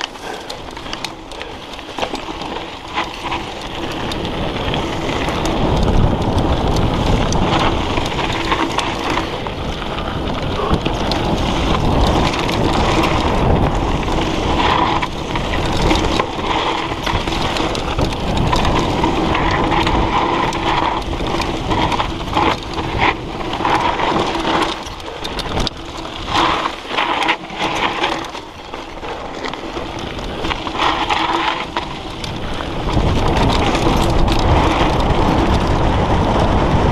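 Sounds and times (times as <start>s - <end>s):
bike rattles and knocks: 0.0s - 36.9s
bike tyres crunching over rocks: 0.0s - 36.9s
wind buffeting microphone: 0.0s - 36.9s.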